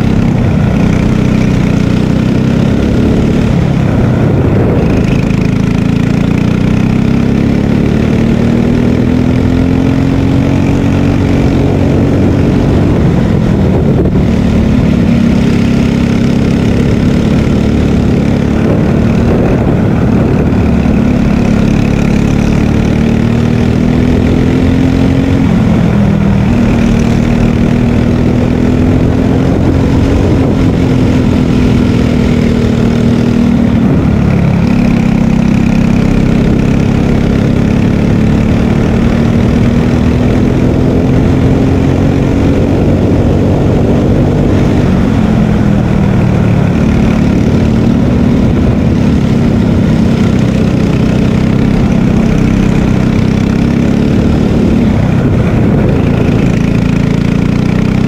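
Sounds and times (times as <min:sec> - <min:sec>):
kart engine at speed: 0:00.0 - 0:58.0.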